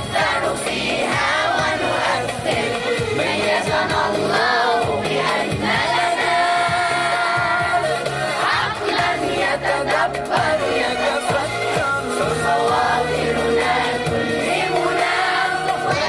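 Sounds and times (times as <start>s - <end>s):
backing track with bass line: 0.0s - 16.0s
group of young voices singing: 0.0s - 16.0s.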